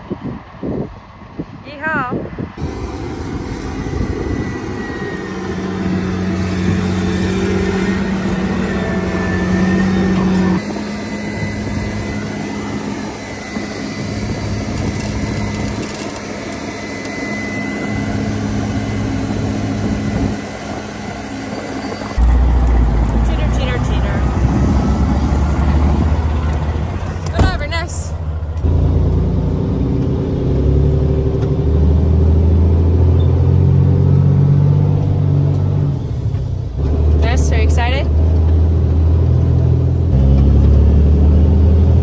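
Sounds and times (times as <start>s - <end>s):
diesel engines humming: 0.0s - 42.0s.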